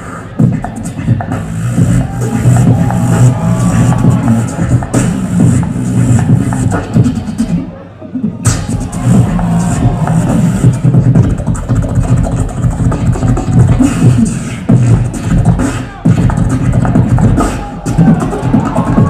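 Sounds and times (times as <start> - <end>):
beatboxing through microphone: 0.0 - 19.0.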